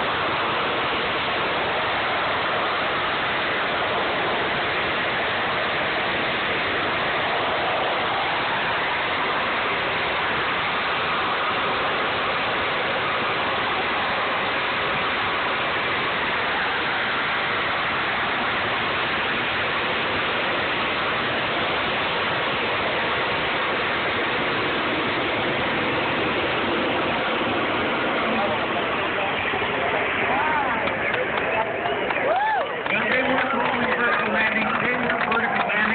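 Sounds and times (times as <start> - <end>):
jet engine roaring steadily: 0.0 - 35.9.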